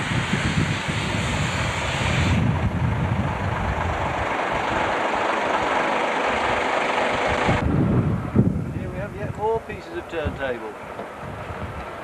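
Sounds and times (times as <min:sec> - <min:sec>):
heavy lorry engine and road rumble: 0:00.0 - 0:12.0.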